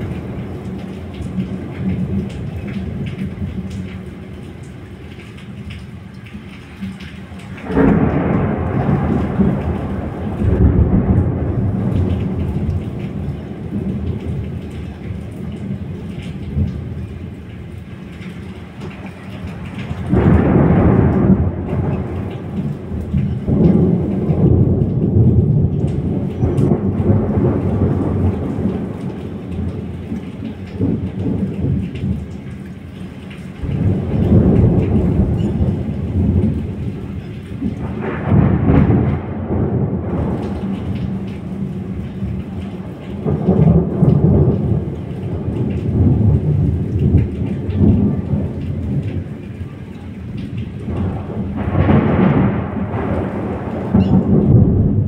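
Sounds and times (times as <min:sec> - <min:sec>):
rolling thunder: 0:00.0 - 0:06.0, 0:06.6 - 0:55.0
steady rain: 0:00.0 - 0:55.0.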